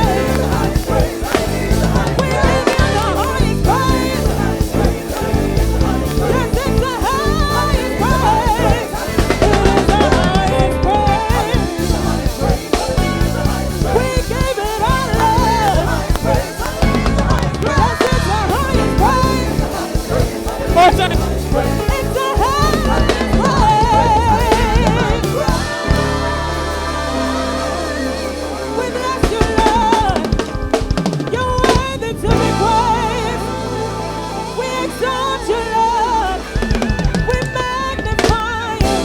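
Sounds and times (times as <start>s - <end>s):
drum kit playing a groove: 0.0s - 39.0s
voices singing over a band: 0.0s - 39.0s.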